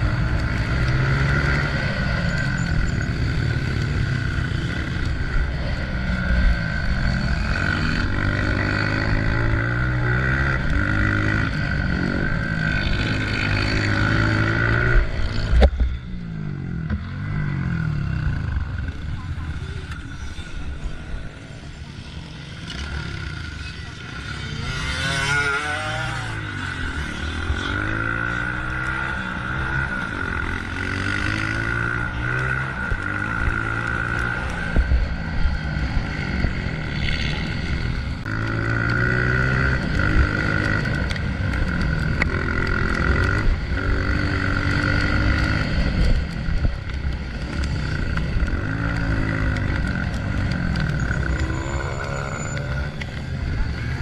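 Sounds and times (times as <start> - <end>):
dirt bike engine revving: 0.0 - 15.6, 22.3 - 54.0.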